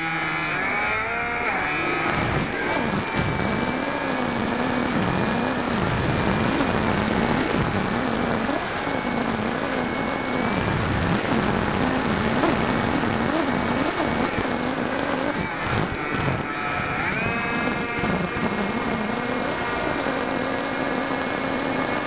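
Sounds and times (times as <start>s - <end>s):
model plane motor and propeller: 0.0s - 22.0s.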